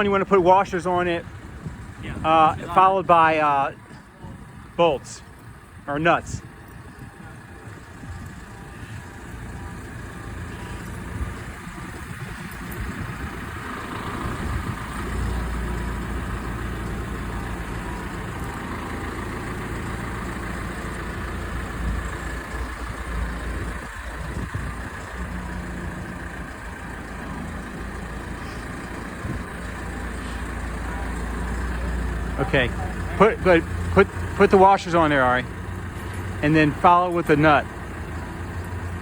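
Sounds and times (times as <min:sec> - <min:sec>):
heavy vehicle engine idling: 0:00.0 - 0:39.0.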